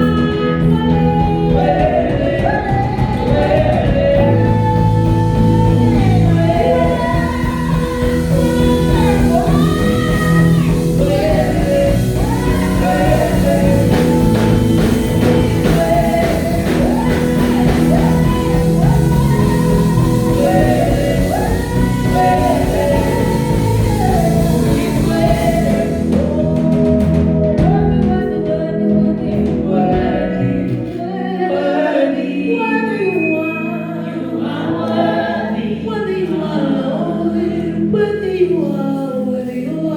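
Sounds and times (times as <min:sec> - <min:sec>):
band playing: 0:00.0 - 0:35.8
group singing gospel song: 0:00.0 - 0:39.9.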